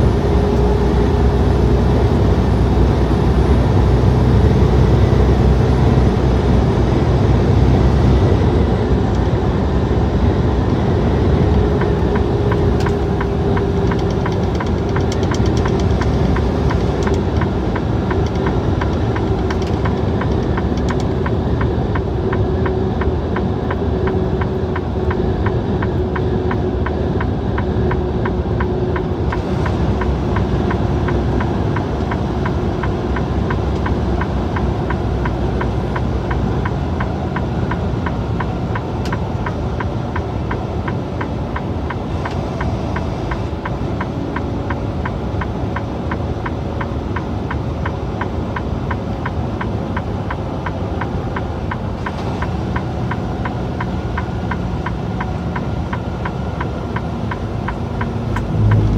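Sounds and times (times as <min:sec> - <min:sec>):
road noise: 0:00.0 - 0:58.9
truck diesel engine drone: 0:00.0 - 0:58.9.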